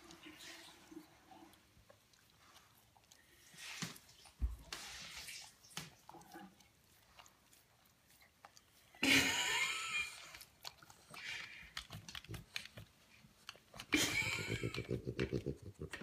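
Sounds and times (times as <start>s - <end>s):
dog licking bathtub: 0.0s - 16.0s.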